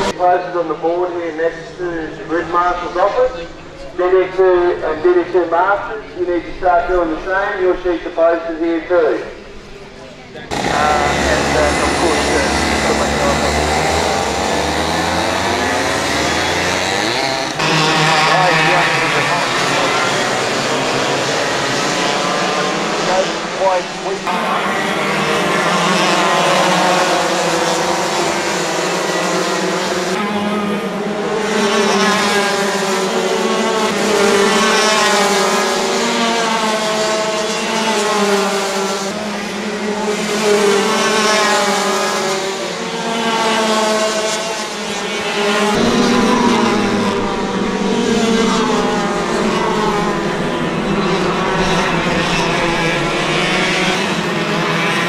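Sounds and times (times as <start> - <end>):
go-kart engines revving: 0.0 - 55.0.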